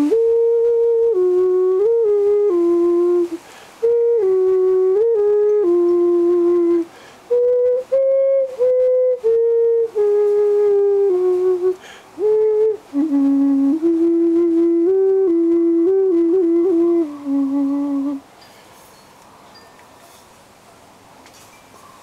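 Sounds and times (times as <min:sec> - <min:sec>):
vessel flute melody: 0:00.0 - 0:18.8.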